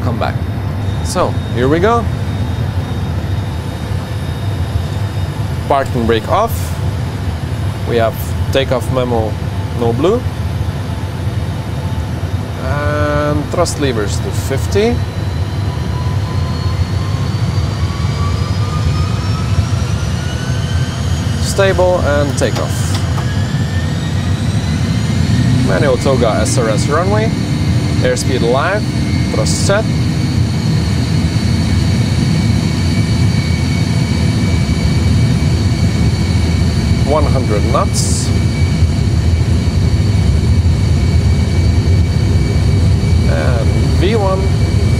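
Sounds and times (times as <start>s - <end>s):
faint high whine: 0.0s - 44.9s
jet engines spooling up: 0.0s - 44.9s.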